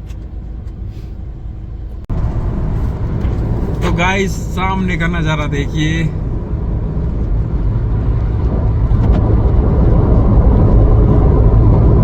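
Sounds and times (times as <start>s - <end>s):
car driving low rumble: 0.0s - 12.0s.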